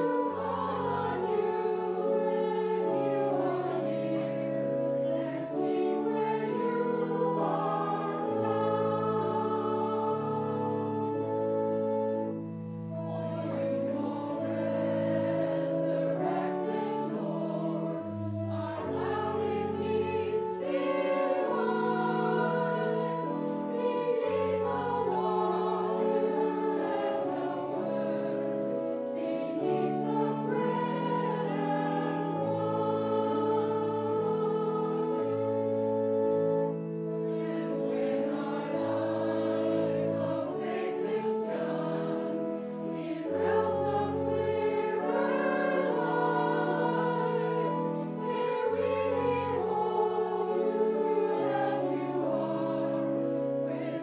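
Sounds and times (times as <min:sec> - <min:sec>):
choir singing a hymn: 0:00.0 - 0:54.0
sustained accompaniment chords: 0:00.0 - 0:54.0.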